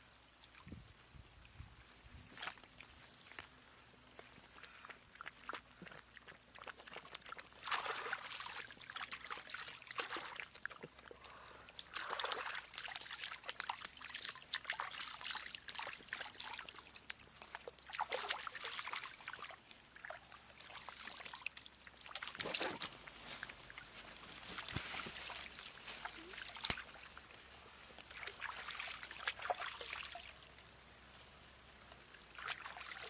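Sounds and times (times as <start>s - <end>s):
water splashing and trickling: 0.3s - 3.4s, 4.4s - 30.7s, 31.9s - 33.0s.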